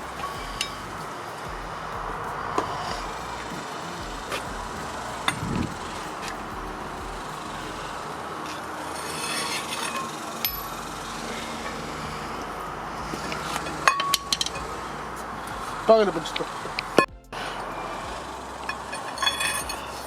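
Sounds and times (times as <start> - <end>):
metal rasping and scraping: 0.0 - 20.0
steady background hiss: 0.0 - 20.0.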